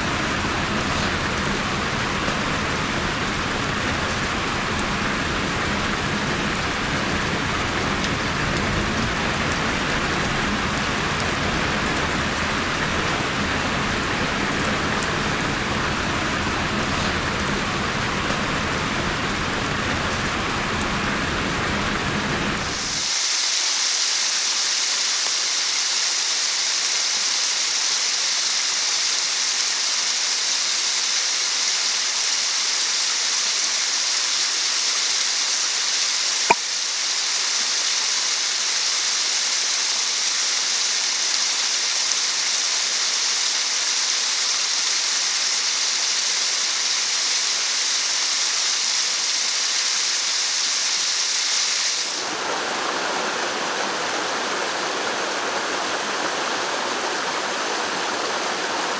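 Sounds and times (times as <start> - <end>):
stream running over rocks: 0.0 - 20.1, 22.5 - 58.9.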